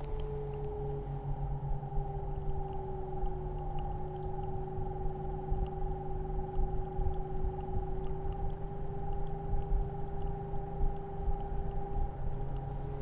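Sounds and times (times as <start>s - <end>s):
heat pump two-tone hum: 0.0s - 13.0s.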